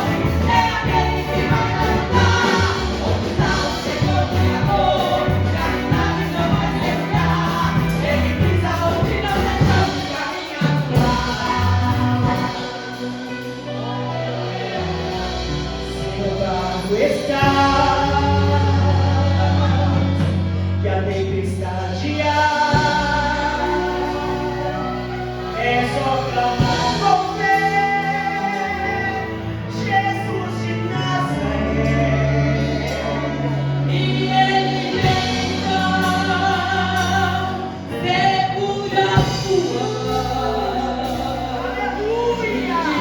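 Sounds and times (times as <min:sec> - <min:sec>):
voices singing gospel song: 0:00.0 - 0:43.0.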